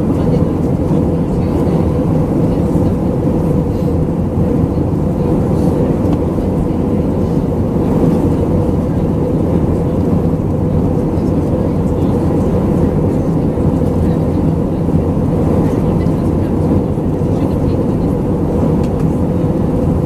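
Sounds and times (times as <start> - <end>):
aircraft cabin drone: 0.0 - 20.0.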